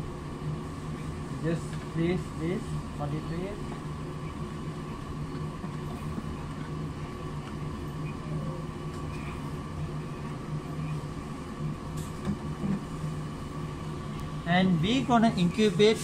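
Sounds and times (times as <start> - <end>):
lab equipment humming: 0.0 - 16.0.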